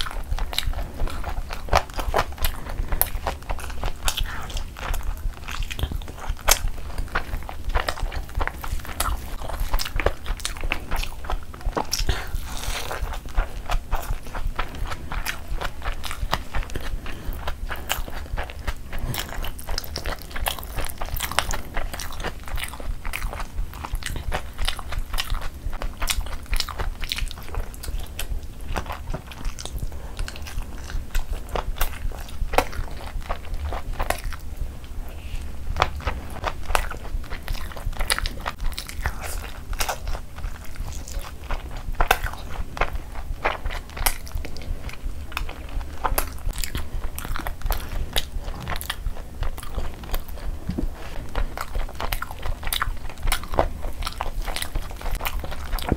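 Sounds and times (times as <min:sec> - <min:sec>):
close-miked chewing: 0:00.0 - 0:55.9.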